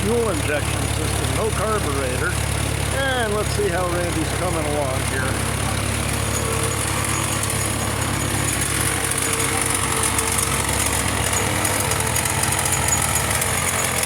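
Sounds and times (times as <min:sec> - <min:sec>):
jackhammer hammering: 0:00.0 - 0:14.0
tractor engine running: 0:00.0 - 0:14.0.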